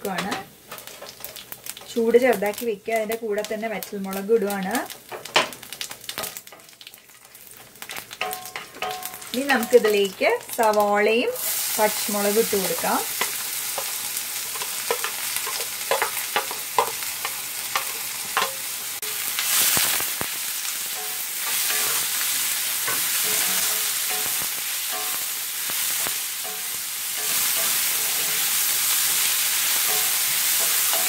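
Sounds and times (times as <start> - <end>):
onion sizzling in oil: 0.0 - 31.0.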